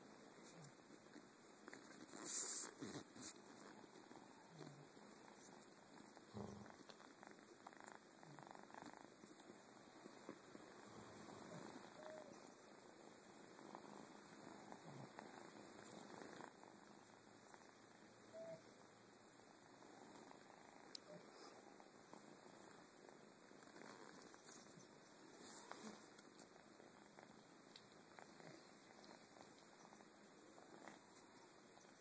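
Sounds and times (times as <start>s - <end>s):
kitten purring: 0.1s - 32.0s.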